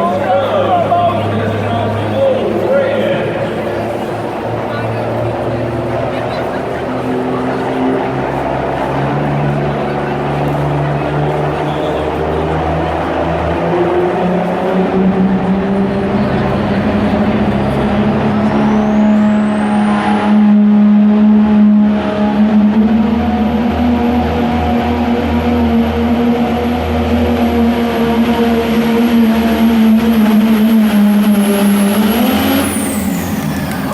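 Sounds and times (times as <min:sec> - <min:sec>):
diesel truck engine at full throttle: 0:00.0 - 0:33.9
high whine: 0:00.0 - 0:33.9.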